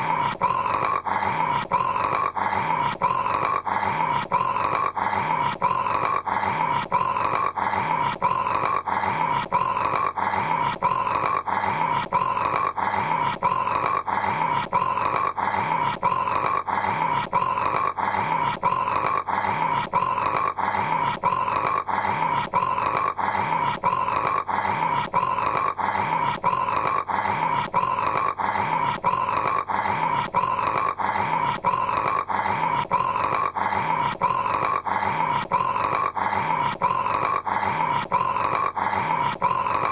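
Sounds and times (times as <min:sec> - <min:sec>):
man snoring: 0:00.0 - 0:39.9.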